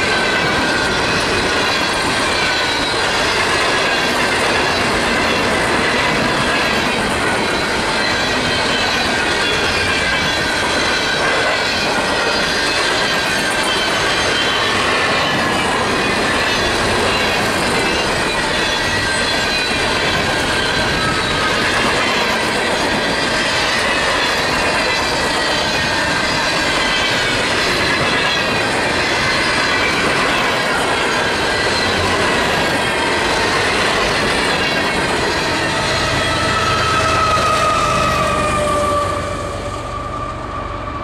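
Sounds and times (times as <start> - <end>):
freight cars rolling on rails: 0.0 - 41.0
wheels squealing on rail: 0.0 - 41.0.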